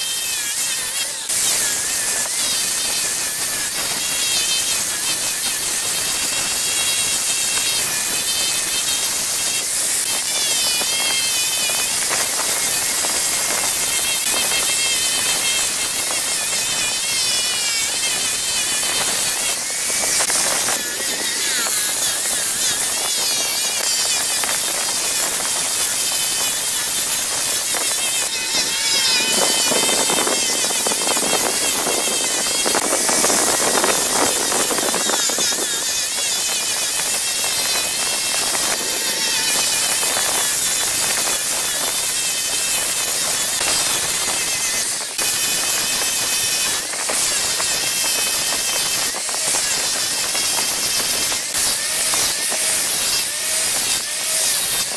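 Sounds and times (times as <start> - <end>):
sanding drum whining: 0.0 - 54.9.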